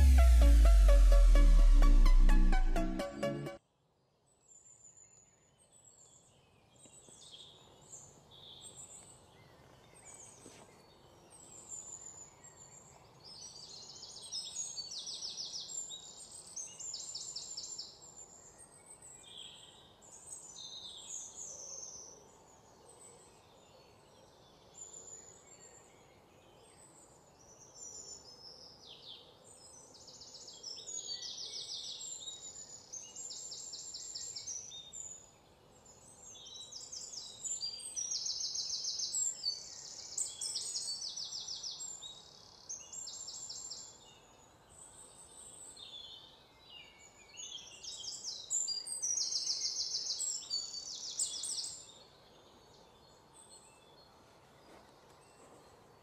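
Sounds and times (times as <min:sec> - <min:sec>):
faint outdoor hiss: 0:00.0 - 0:56.0.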